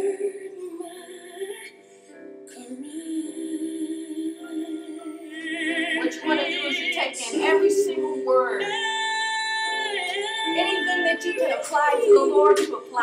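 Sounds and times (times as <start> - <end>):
woman singing worship song: 0.0 - 13.0.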